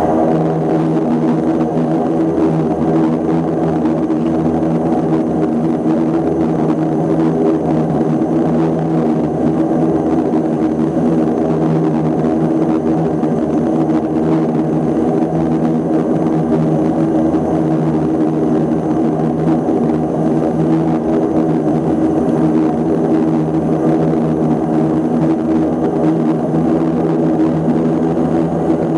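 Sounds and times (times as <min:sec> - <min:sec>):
turboprop engines humming: 0:00.0 - 0:28.9.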